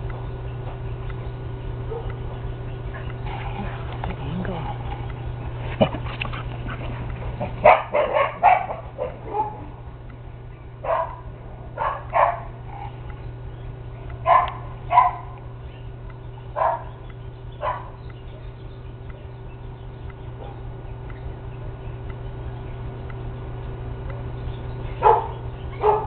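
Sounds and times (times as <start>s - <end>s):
dogs barking: 0.0s - 22.8s, 23.7s - 26.0s.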